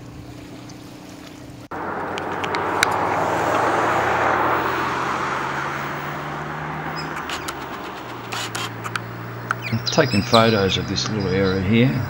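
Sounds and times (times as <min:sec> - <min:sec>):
vehicle passing by: 0:01.7 - 0:12.0.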